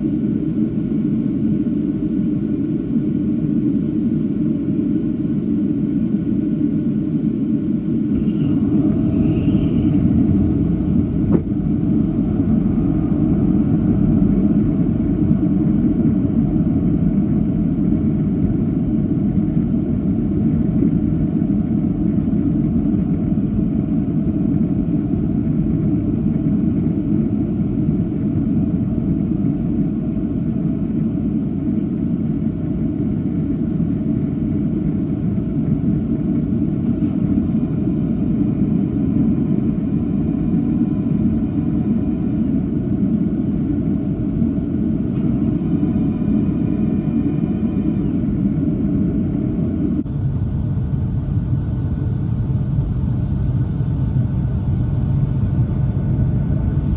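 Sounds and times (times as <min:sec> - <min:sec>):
jet airliner rumble: 0:00.0 - 0:56.9.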